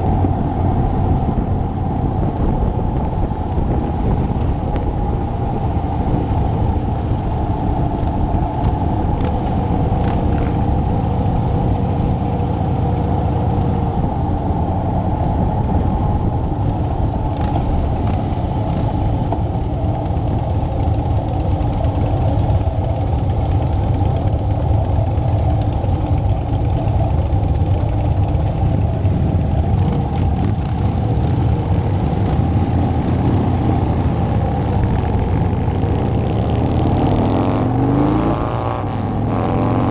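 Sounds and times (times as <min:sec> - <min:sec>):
muffled motorcycle engine: 0:00.0 - 0:39.9.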